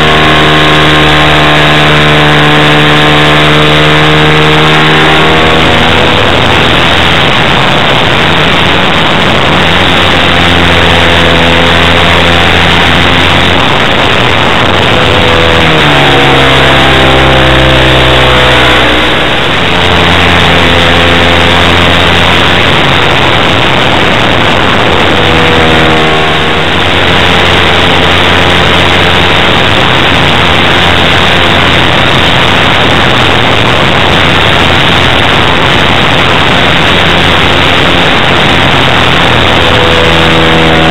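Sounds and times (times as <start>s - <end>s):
model aircraft engine running: 0.0s - 40.9s.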